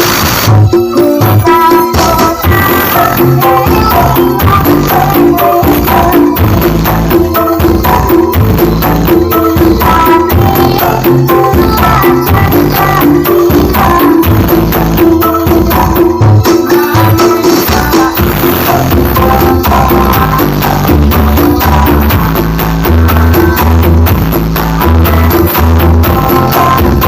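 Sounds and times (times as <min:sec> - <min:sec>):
loud music with fast percussion: 0:00.0 - 0:27.0.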